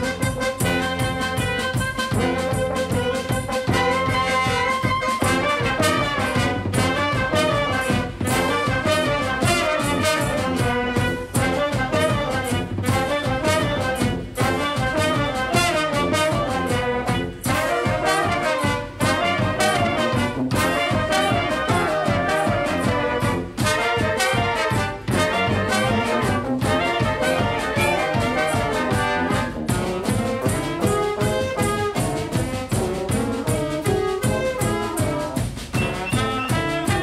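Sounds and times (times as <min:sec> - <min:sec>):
brass band playing: 0:00.0 - 0:37.0.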